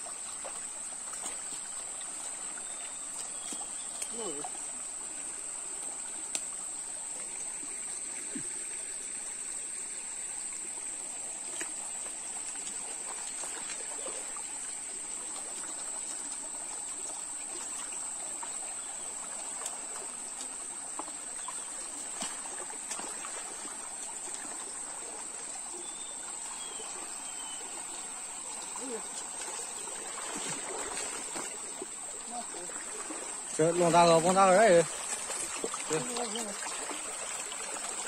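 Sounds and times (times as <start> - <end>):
stream trickling over rocks: 0.0 - 38.0.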